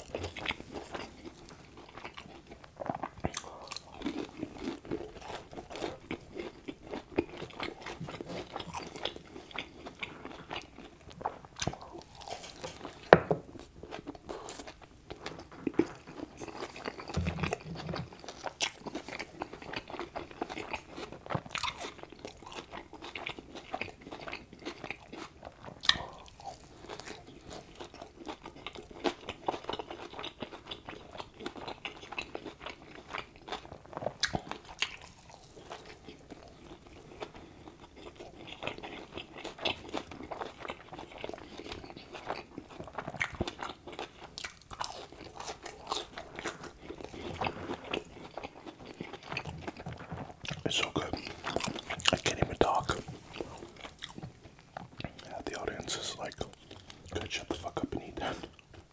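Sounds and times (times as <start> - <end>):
person biting and chewing food: 0.0 - 58.9.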